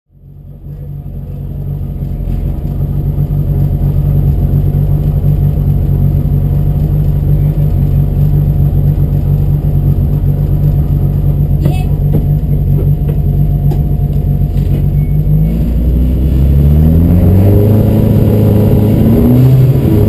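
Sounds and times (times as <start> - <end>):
car engine running steadily: 0.1 - 20.0.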